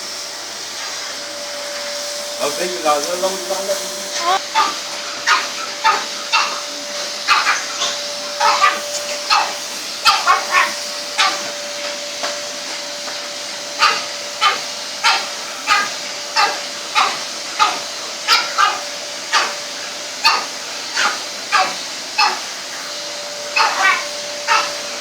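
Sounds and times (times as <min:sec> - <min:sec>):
vacuum cleaner humming: 0:00.0 - 0:25.0
dogs barking: 0:02.4 - 0:25.0.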